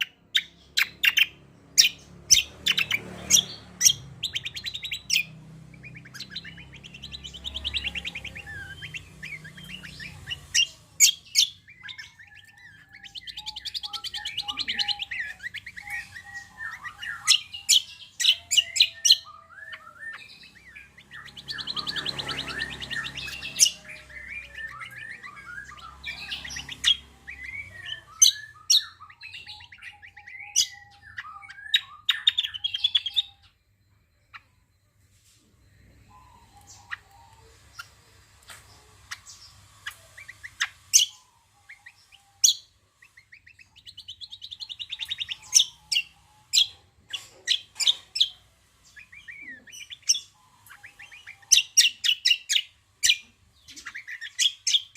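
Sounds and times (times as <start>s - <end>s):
bird singing chirps and trills: 0.0s - 34.8s, 35.7s - 54.9s.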